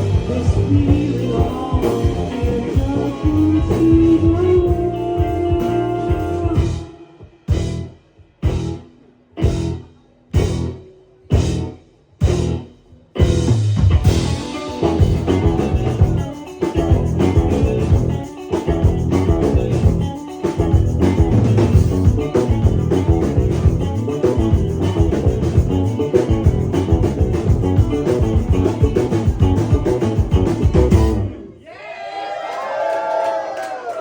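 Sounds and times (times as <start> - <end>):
drum kit: 0.0 - 31.6
electric guitar: 0.0 - 31.6
live rock band playing: 0.0 - 31.6.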